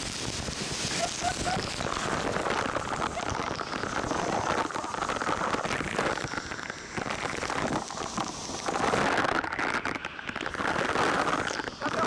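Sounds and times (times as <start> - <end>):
waterfall splashing onto rock: 0.0 - 12.0.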